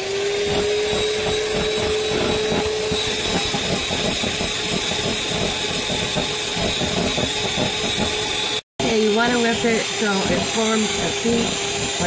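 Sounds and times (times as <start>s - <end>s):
beaters whipping cream in bowl: 0.0s - 12.0s
electric hand mixer motor whine: 0.0s - 12.0s.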